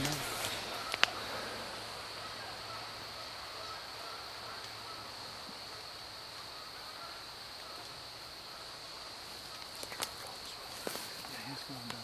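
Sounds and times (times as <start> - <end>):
distant bird calls: 0.0 - 12.0
steady high hiss: 0.0 - 12.0.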